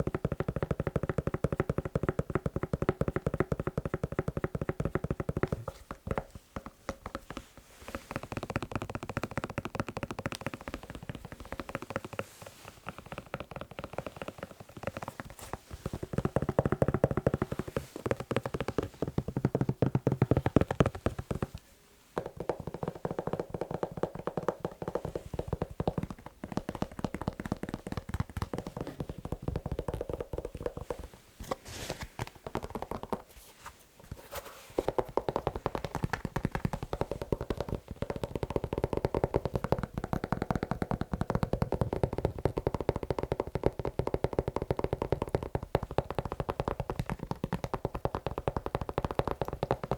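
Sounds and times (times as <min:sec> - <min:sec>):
tapping and scratching on shoe: 0:00.0 - 0:21.6, 0:22.2 - 0:49.9.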